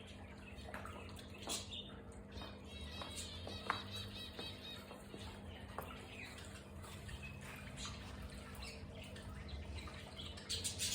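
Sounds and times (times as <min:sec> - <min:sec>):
small birds chirping: 0:00.0 - 0:10.9
steady low hum: 0:00.0 - 0:10.9.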